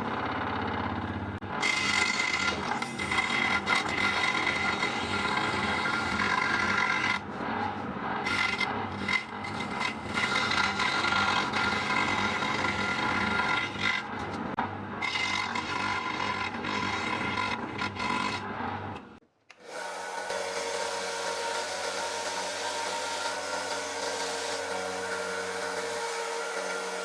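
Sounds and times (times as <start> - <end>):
abrasive tool rasping wood: 1.5 - 19.0, 19.7 - 27.0.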